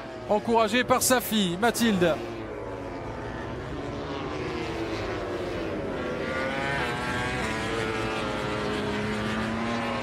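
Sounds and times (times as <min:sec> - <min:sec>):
racing motorcycle engines revving: 0:00.0 - 0:10.0.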